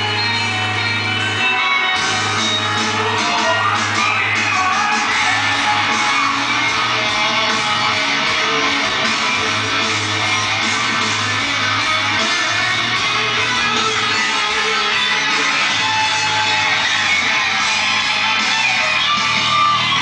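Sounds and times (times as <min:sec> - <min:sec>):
rock music with guitar and vocals: 0:00.0 - 0:20.0.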